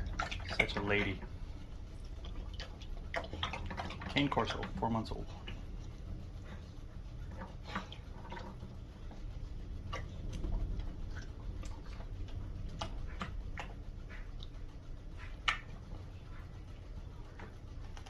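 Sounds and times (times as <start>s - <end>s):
dog lapping water: 0.0s - 17.9s
dog chewing wet kibble: 0.0s - 18.0s
low steady hum: 0.0s - 18.0s.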